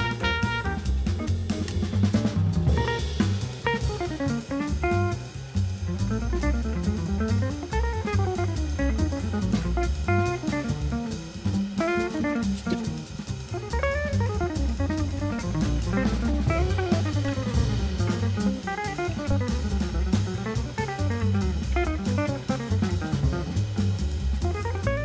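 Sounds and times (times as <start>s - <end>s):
bass: 0.0s - 25.0s
drums: 0.0s - 25.0s
guitar melody: 0.0s - 25.0s.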